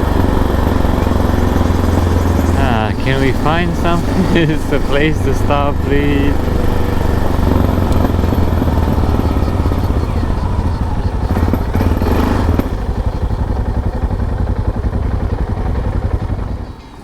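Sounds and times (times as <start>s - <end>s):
motorcycle engine throbbing: 0.0s - 17.0s.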